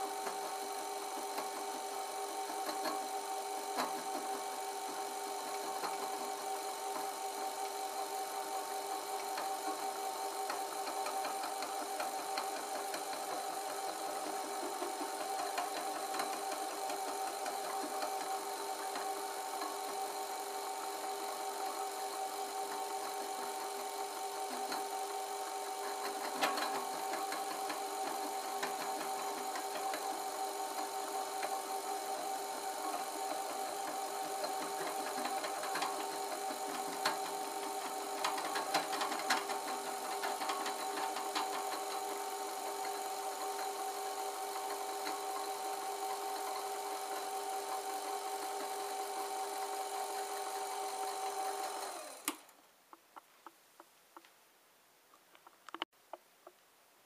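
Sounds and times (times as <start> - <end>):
metal lathe humming: 0.0 - 52.3.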